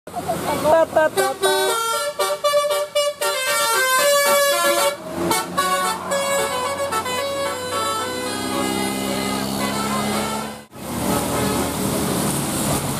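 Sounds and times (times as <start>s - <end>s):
multi-tone air horn tune: 1.1s - 11.8s.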